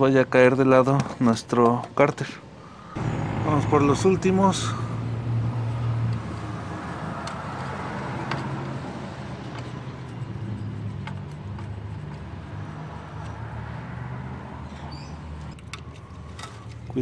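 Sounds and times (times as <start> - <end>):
vehicle engine running: 3.0 - 17.0.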